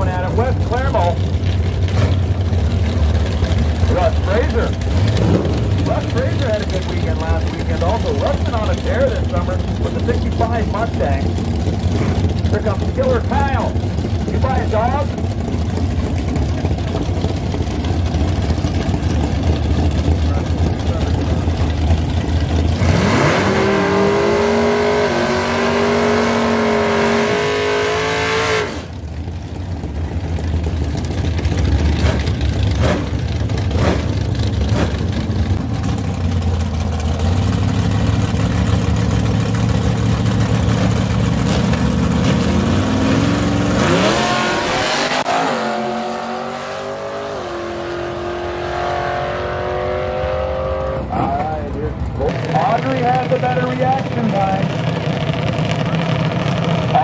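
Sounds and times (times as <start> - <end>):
drag racing engines accelerating: 0.0 - 57.0
race car engine revving: 0.0 - 57.0.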